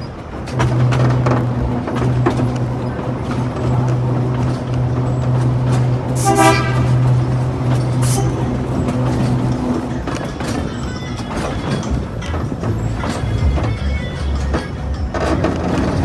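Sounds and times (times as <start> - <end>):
low hum of moving tram: 0.0 - 16.0
tram horn toot: 0.0 - 16.0.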